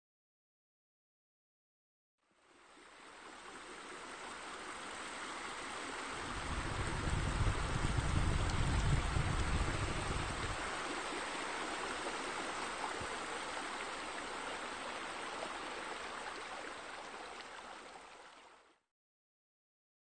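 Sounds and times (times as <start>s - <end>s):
rushing water: 2.3s - 18.8s.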